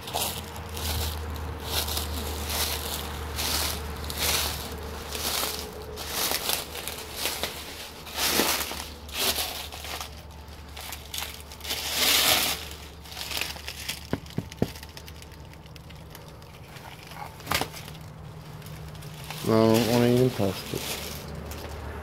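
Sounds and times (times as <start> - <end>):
footsteps crunching through dry leaves: 0.0 - 22.0
twigs snapping: 0.0 - 22.0.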